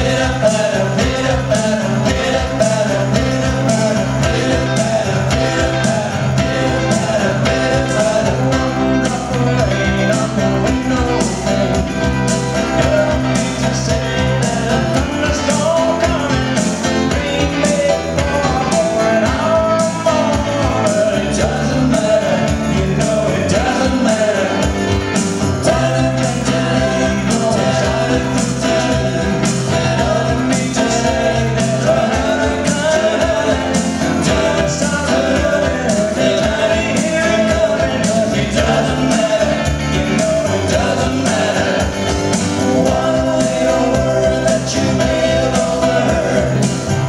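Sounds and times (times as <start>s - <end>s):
person singing: 0.0s - 47.0s
pop-rock band playing: 0.0s - 47.0s.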